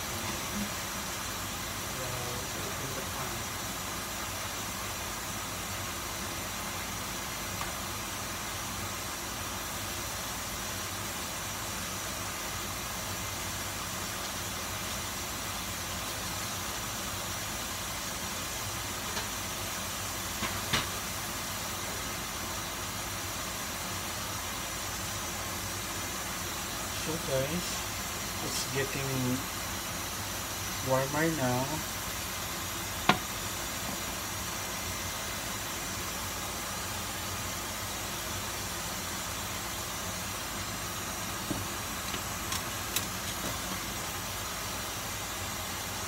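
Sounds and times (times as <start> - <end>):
fan running: 0.0 - 46.0.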